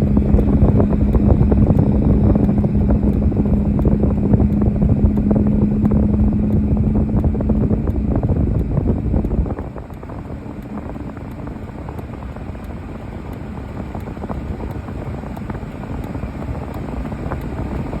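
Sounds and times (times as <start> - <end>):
steady low rumbling: 0.0 - 18.0.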